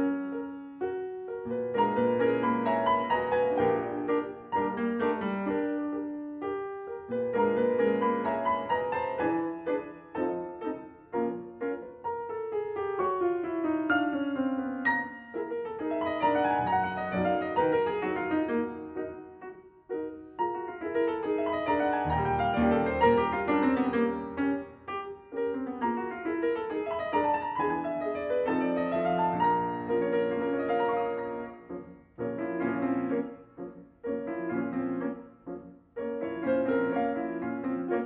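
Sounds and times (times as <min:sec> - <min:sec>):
classical piano piece: 0:00.0 - 0:38.0.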